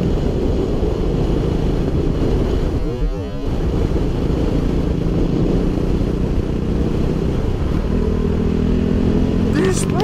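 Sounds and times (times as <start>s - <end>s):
low wind rumble: 0.0s - 10.0s
motorcycle engine running: 0.0s - 10.0s.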